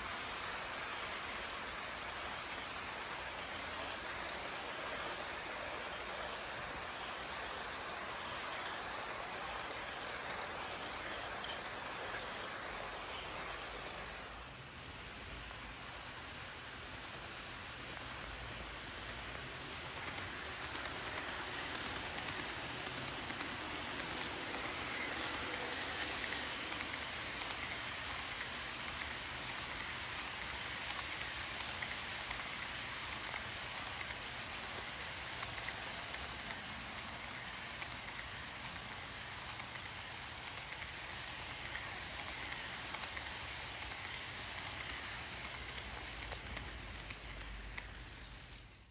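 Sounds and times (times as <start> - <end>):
model train wheels rolling on rails: 0.0 - 48.9.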